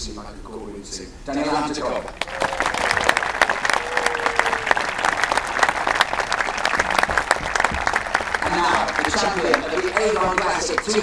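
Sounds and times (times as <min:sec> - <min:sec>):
crowd applauding: 0:02.0 - 0:11.0.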